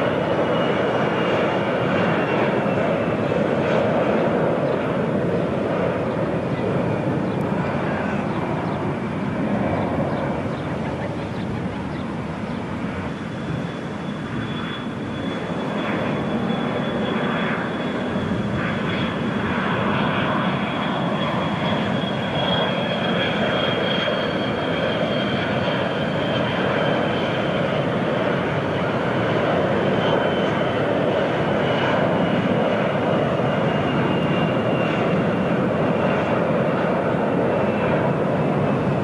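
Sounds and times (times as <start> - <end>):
high engine whine: 0.0 - 39.0
jet engines drone: 0.0 - 39.0.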